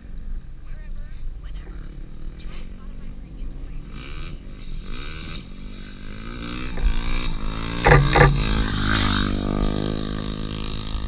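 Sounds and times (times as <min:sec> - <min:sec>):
motorcycle engine approaching: 0:00.0 - 0:11.0.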